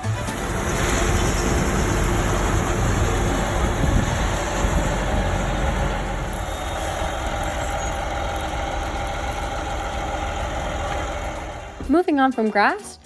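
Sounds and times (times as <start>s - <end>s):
farm machinery engine running: 0.0s - 11.9s.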